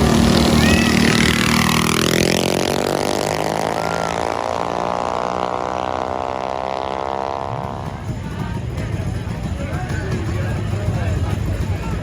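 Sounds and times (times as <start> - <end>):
mini bike engine winding down: 0.0 - 12.0.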